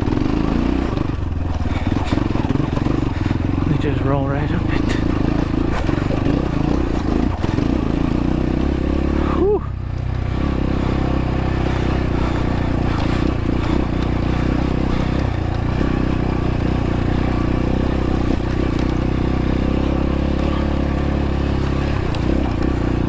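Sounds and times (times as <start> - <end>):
dirt bike engine at low revs: 0.0 - 23.0.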